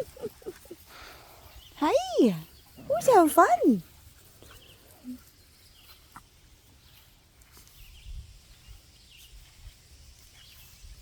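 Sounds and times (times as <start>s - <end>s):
distant birds chirping: 0.0s - 9.3s.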